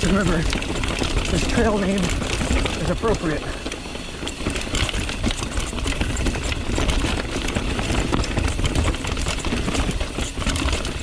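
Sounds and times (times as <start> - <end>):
bike clattering over ground: 0.0 - 11.0.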